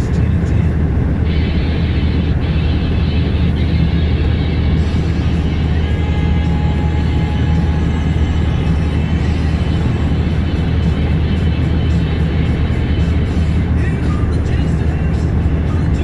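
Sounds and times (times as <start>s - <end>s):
music playing: 0.0s - 16.0s
truck engine and road drone: 0.0s - 16.0s.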